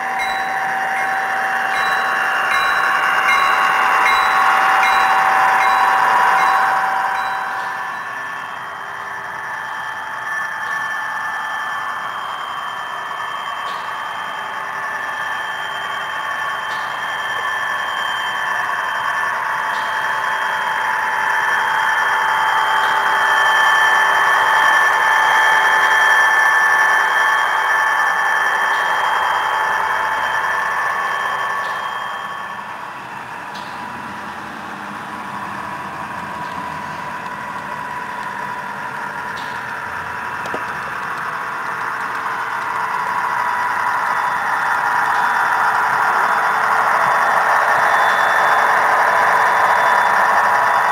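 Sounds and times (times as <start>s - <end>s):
model train high-pitched squeal: 0.0s - 50.9s.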